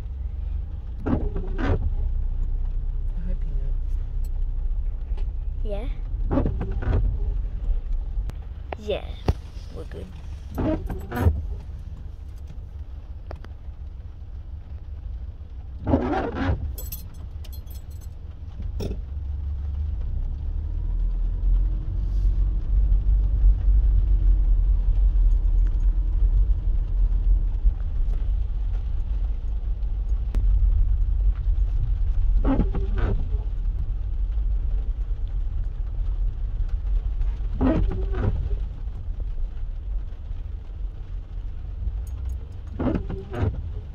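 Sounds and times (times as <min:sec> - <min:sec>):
vehicle rumble inside a car: 0:00.0 - 0:43.9.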